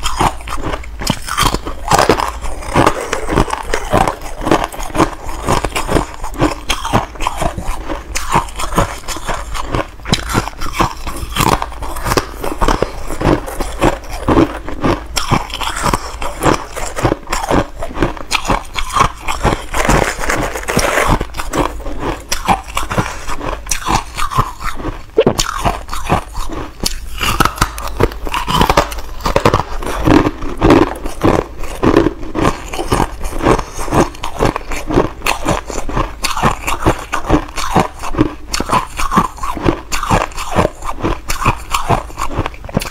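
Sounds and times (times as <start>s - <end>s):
frost being chewed: 0.0s - 42.9s.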